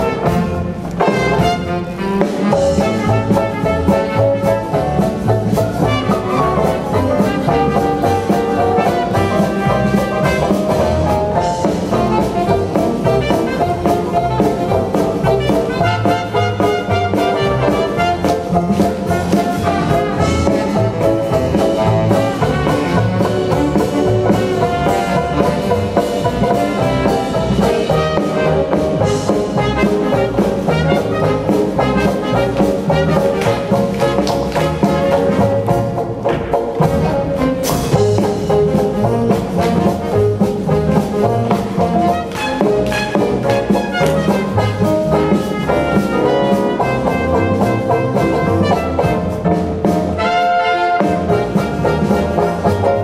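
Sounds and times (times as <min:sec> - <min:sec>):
jazz band playing: 0:00.0 - 0:53.0
trumpets and trombones: 0:00.0 - 0:53.0.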